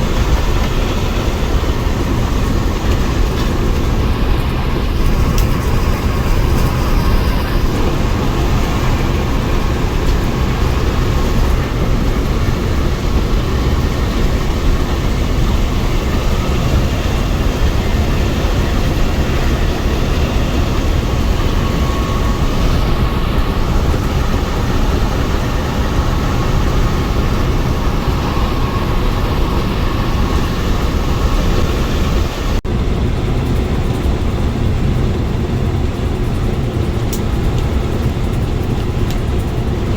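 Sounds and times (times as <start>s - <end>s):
coach engine rumble: 0.0s - 39.9s
road noise: 0.0s - 39.9s.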